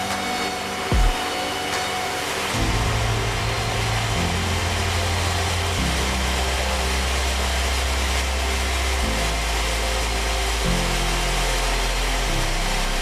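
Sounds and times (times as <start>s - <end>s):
background music with low notes: 0.0s - 13.0s
sawmill machinery running: 0.0s - 13.0s.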